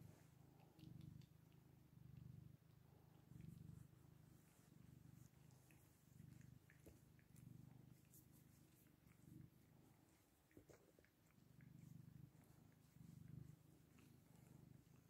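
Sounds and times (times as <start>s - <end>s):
cat purring faintly: 0.0s - 15.0s.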